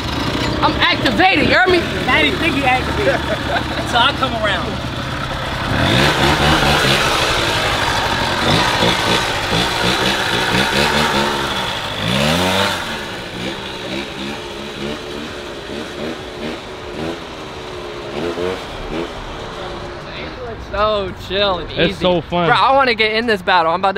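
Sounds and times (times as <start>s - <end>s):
quad engine revving: 0.0s - 22.7s.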